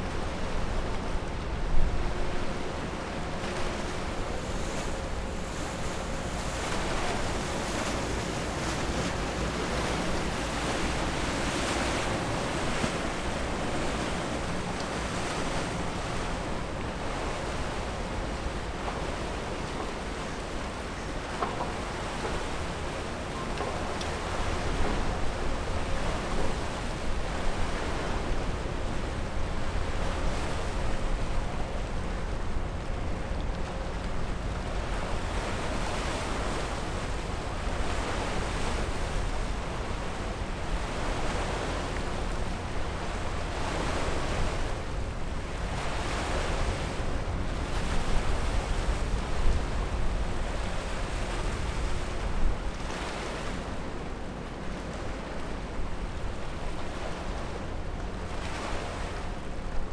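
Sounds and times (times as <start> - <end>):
waves splashing on river: 0.0 - 59.9
wind rumbling on microphone: 0.0 - 59.9.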